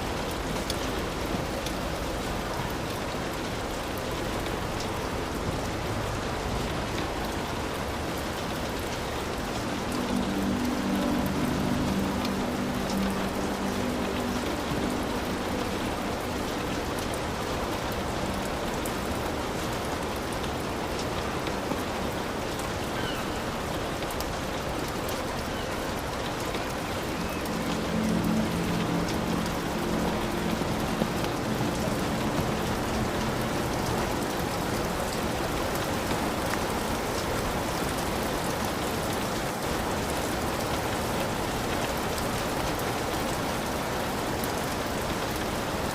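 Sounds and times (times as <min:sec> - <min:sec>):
heavy rain on roof: 0:00.0 - 0:45.9.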